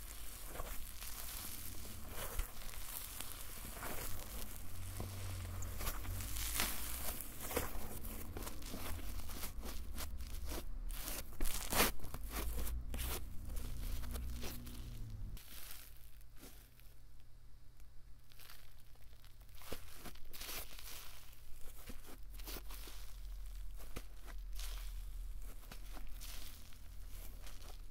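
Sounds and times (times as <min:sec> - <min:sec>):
slime crackling and tearing: 0:00.0 - 0:16.8, 0:18.3 - 0:27.9.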